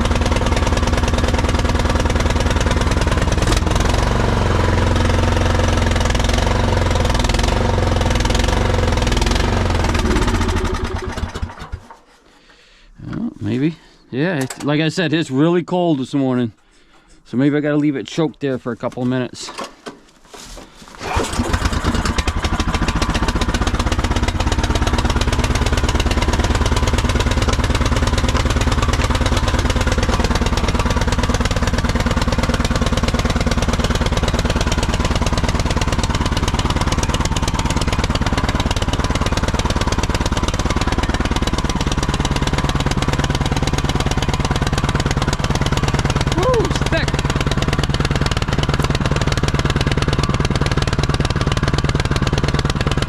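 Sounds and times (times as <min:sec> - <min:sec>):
snowblower engine running: 0:00.0 - 0:12.4, 0:20.3 - 0:53.0.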